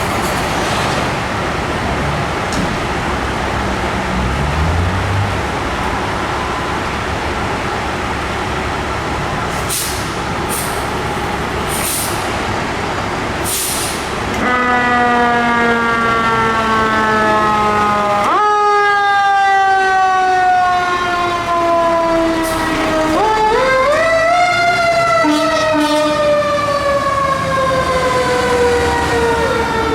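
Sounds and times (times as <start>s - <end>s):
fire engine running: 0.0s - 29.9s
fire engine siren: 3.6s - 11.7s, 13.8s - 29.9s.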